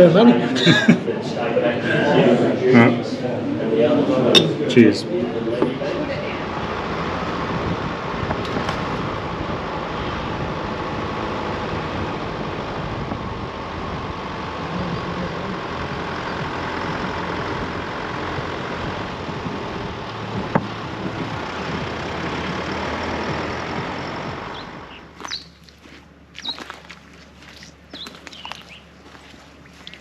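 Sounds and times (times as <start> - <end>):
engine humming steadily: 0.0 - 30.0.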